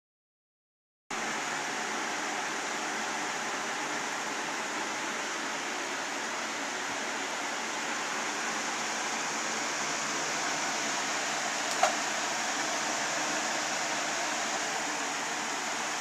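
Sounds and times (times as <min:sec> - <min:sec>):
fan running: 0:01.1 - 0:16.0.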